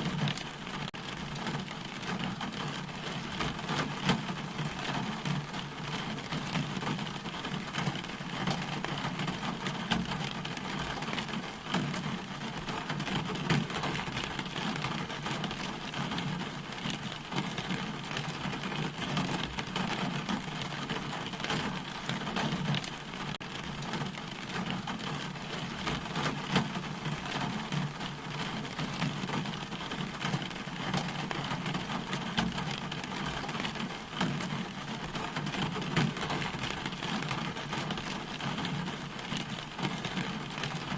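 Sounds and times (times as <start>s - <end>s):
rain drops ticking: 0.0s - 40.9s
steady rain hiss: 0.0s - 40.9s.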